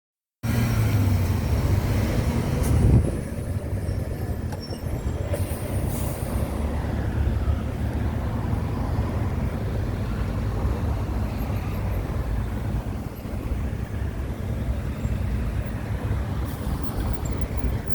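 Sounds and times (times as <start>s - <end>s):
bus engine rumble: 0.4s - 17.9s.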